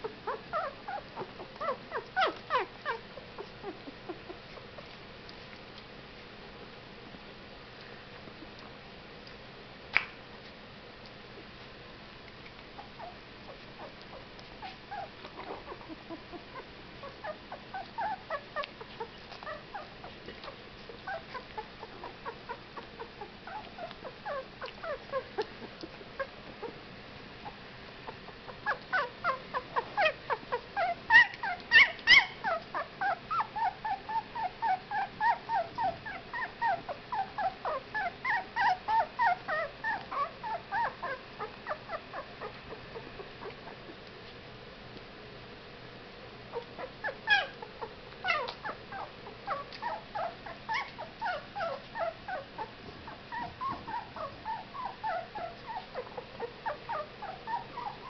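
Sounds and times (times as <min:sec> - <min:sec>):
puppies whimpering and squeaking: 0:00.0 - 0:05.0, 0:12.8 - 0:44.0, 0:46.5 - 0:58.0.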